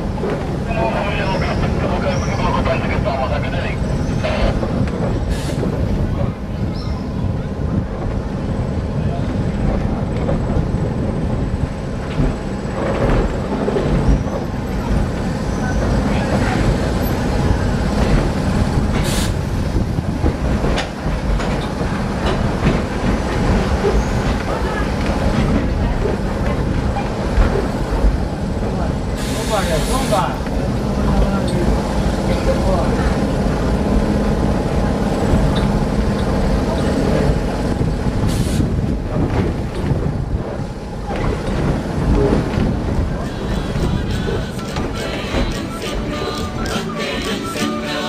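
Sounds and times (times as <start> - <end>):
tram rumbling on track: 0.0 - 48.0.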